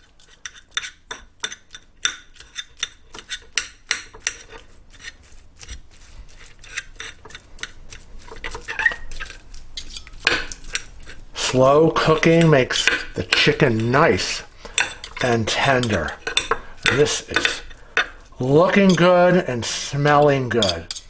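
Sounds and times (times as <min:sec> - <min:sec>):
forks scraping ceramic plate: 0:02.4 - 0:21.0.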